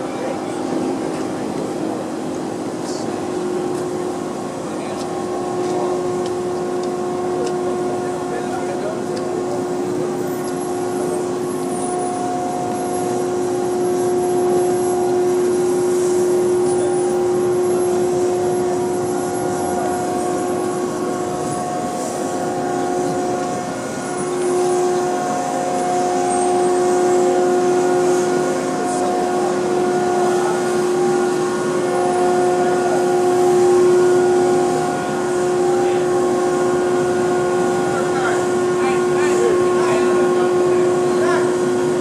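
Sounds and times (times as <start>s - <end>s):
crane machinery humming and whining: 0.0s - 42.0s.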